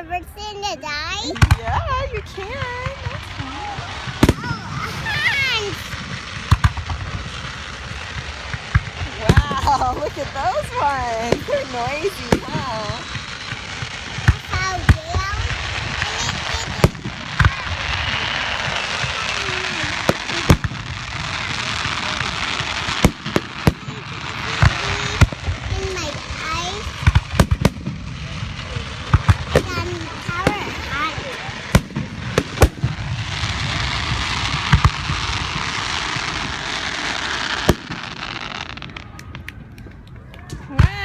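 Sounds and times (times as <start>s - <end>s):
fireworks bangs: 0.0s - 41.0s
fireworks hissing: 0.1s - 39.6s.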